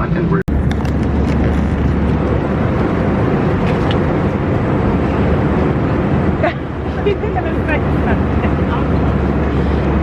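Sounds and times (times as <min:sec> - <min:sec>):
jet engines and airflow rumble: 0:00.0 - 0:10.0.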